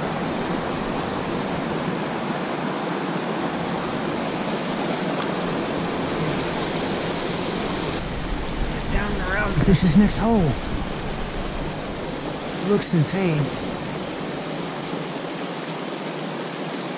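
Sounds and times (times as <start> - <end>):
stream rushing over rocks: 0.0 - 16.9.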